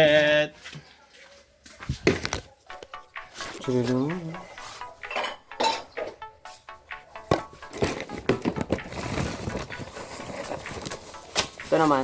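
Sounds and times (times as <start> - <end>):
background music: 2.1 - 12.0.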